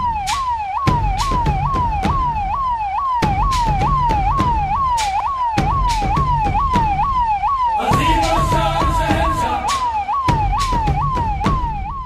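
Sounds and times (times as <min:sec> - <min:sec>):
electronic siren yelping: 0:00.0 - 0:12.0.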